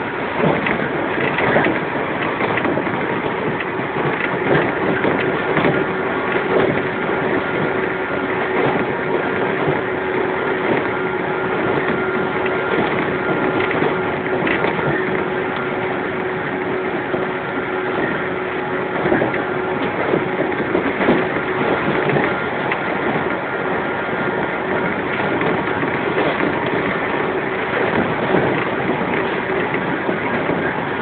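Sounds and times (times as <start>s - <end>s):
train wheels on rail: 0.0s - 31.0s.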